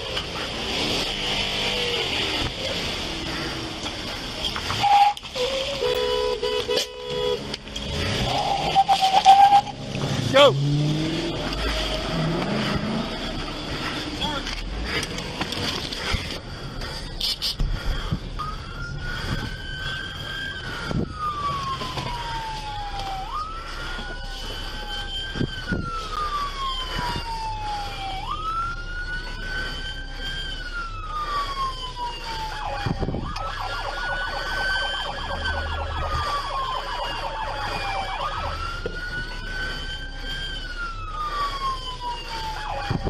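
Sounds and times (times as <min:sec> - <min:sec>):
police siren wailing: 0:00.0 - 0:43.0.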